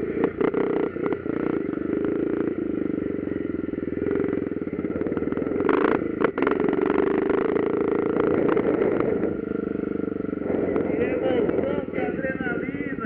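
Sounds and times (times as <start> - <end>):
motocross motorcycle engines: 0.0 - 13.0.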